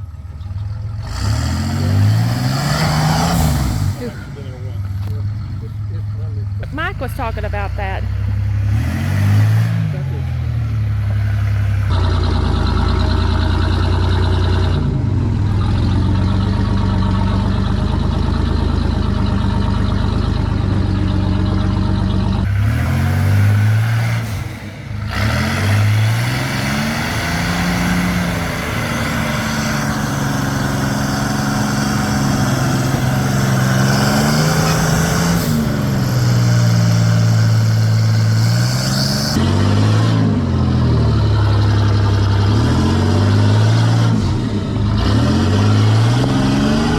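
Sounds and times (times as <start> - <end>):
off-road vehicle engine revving: 0.0 - 46.9.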